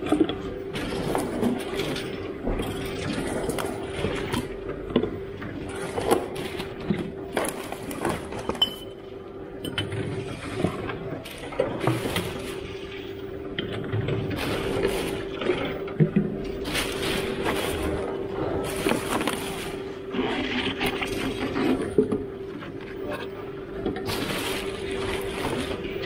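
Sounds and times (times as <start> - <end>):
plastic bottles crinkling: 0.0 - 4.6, 5.5 - 8.9, 10.2 - 23.0, 23.9 - 26.0
steady machine hum: 0.0 - 26.0
plastic bin bags rustling: 0.6 - 4.9, 5.5 - 8.9, 10.2 - 26.0.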